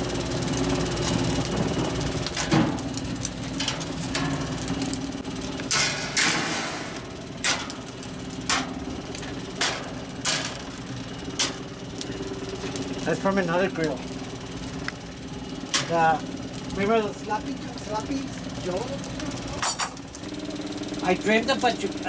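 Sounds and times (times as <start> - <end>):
fire crackling and popping: 0.0 - 22.0
steady low hum: 0.0 - 22.0.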